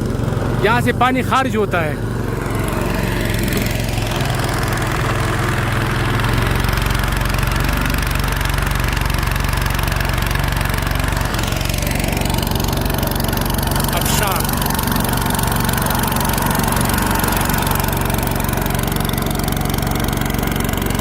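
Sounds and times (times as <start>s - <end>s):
machine droning: 0.0s - 21.0s.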